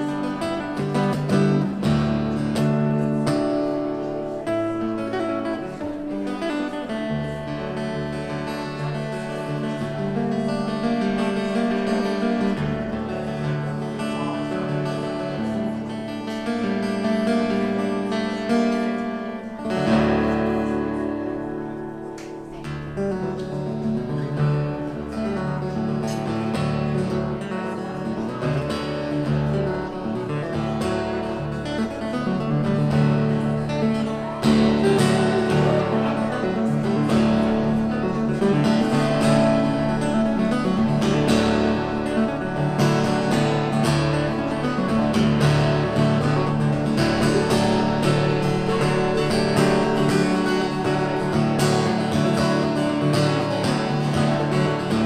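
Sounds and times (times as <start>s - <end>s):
fingerstyle acoustic guitar: 0.0s - 55.0s.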